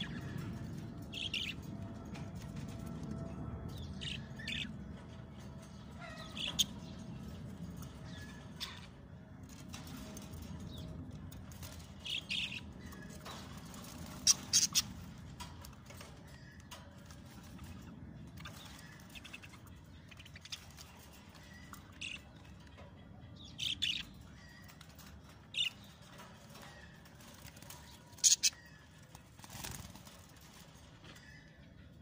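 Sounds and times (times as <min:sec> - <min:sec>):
low background rumble: 0:00.0 - 0:32.0.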